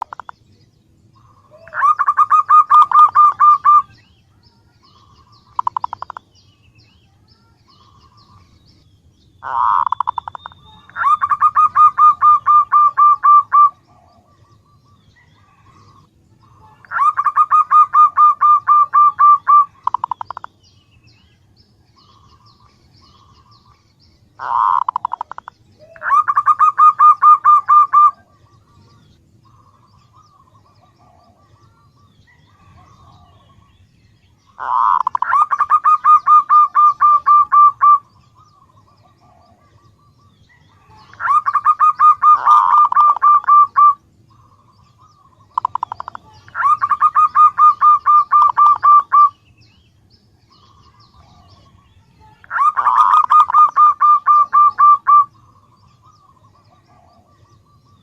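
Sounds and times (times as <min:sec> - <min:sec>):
dove calling in staccato bursts: 0:00.0 - 0:58.0.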